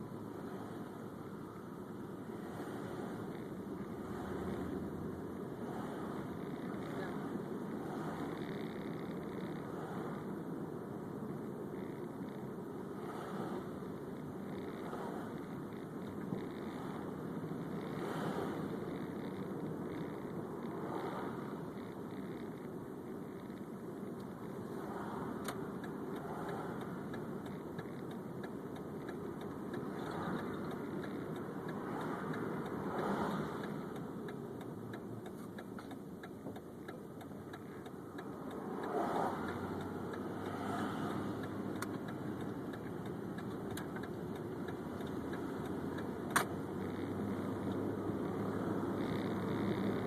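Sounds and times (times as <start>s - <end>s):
car engine rumble: 0.0s - 50.0s.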